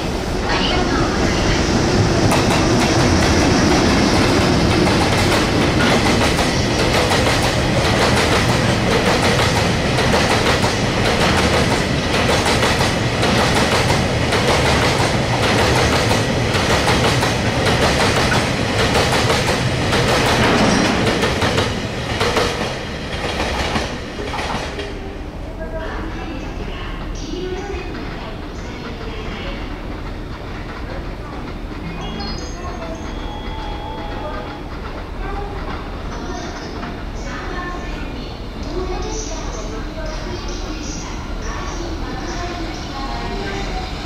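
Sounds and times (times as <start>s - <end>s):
freight train passing: 0.0s - 44.0s.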